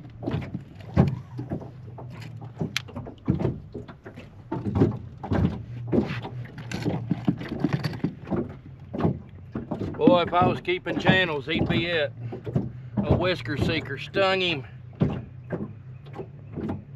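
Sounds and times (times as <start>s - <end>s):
knocks against a boat: 0.0s - 16.9s.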